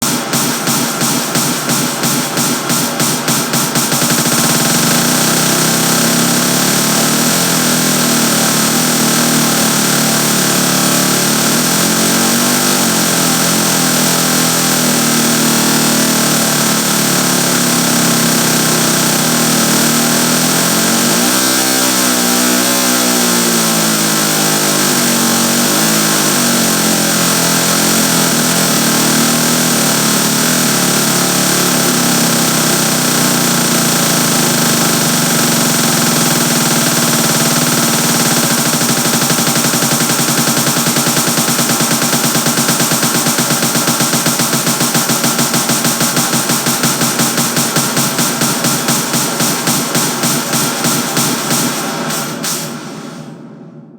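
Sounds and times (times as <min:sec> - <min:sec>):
synthesized chainsaw drone: 0:00.0 - 0:53.3.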